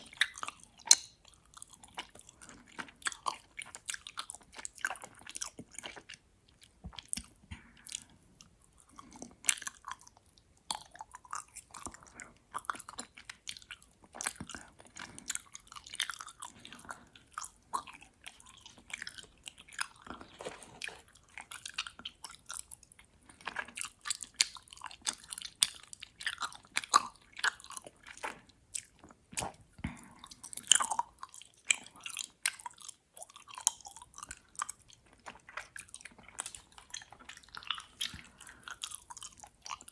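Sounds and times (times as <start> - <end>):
mouth chewing sticky candy: 0.0 - 39.9.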